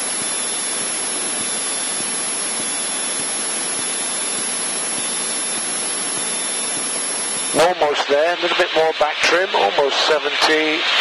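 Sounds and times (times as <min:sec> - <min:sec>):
aircraft cockpit engine and airflow: 0:00.0 - 0:11.0.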